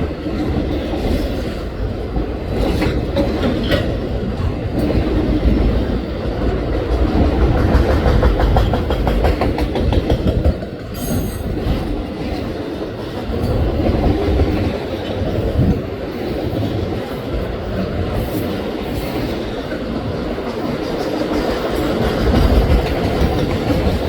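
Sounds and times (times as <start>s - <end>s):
train wheels rumbling and clicking: 0.0s - 24.0s.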